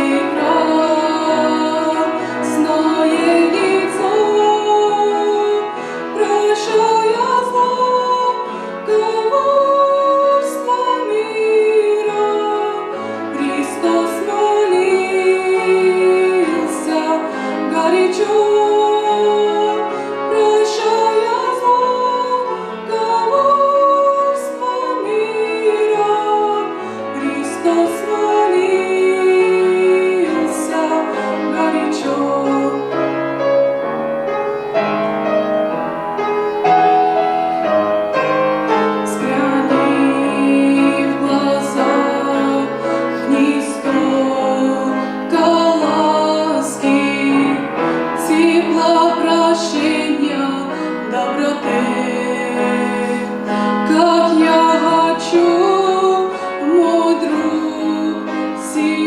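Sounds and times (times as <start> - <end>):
woman singing slow song: 0.0 - 33.0, 39.0 - 59.0
piano accompaniment: 0.0 - 59.0.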